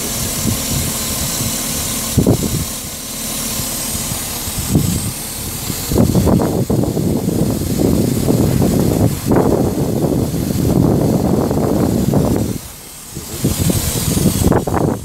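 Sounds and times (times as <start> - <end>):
car engine idling: 0.0 - 15.0
wind noise on microphone: 0.0 - 15.0.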